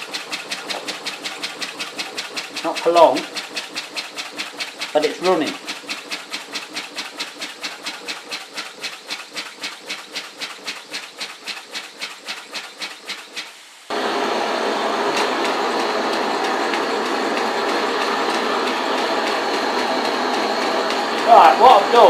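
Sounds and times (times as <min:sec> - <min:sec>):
rushing steam hiss: 0:00.0 - 0:22.0
steam engine chuffing: 0:00.0 - 0:22.0.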